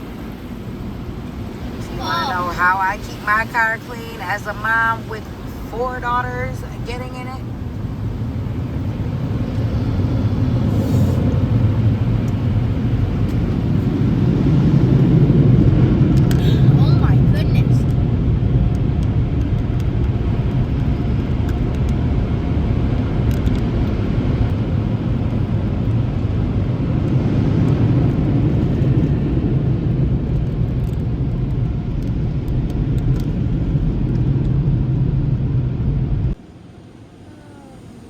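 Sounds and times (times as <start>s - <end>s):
car wash rumble: 0.0s - 38.0s.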